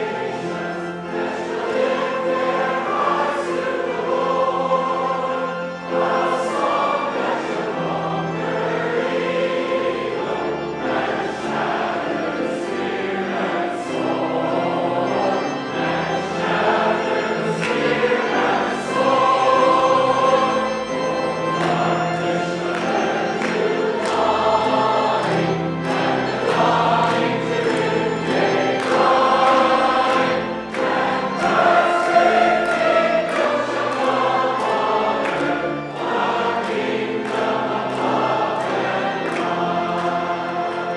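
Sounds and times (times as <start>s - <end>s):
church choir singing: 0.0s - 40.9s.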